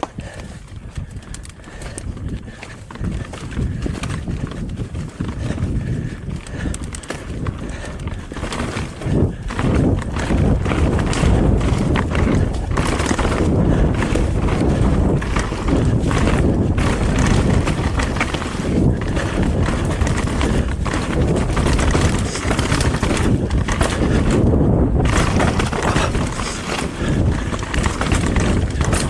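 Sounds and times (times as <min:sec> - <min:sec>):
bike knocks and rattles: 0:00.0 - 0:29.0
bike tyres on dirt trail: 0:00.0 - 0:29.0
wind buffeting microphone: 0:00.0 - 0:29.0.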